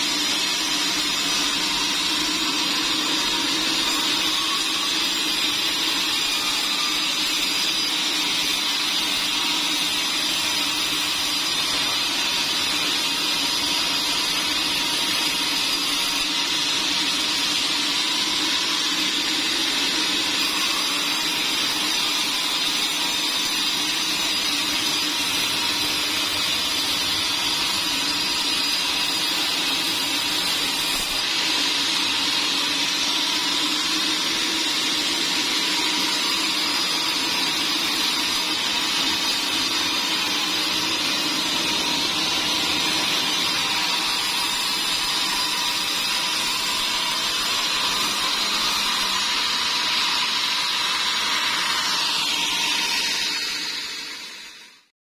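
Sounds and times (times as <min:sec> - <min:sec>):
band saw cutting log: 0:00.0 - 0:54.8.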